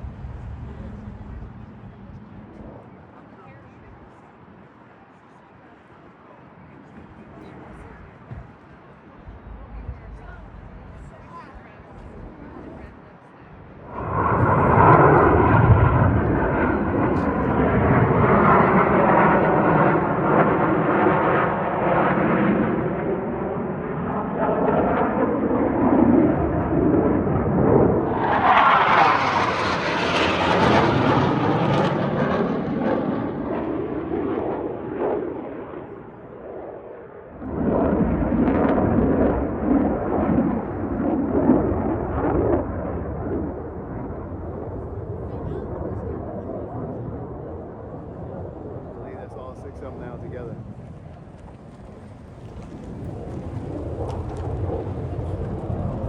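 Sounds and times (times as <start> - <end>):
aircraft flying low overhead: 0.0 - 56.0.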